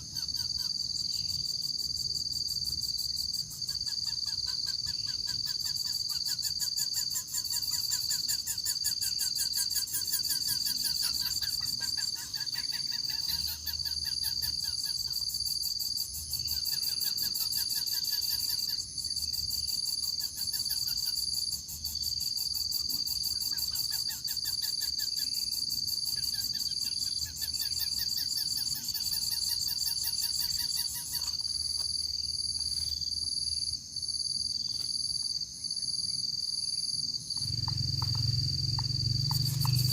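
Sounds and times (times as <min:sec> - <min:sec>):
insects droning high-pitched: 0:00.0 - 0:39.9
low rapid insect trill: 0:00.0 - 0:39.9.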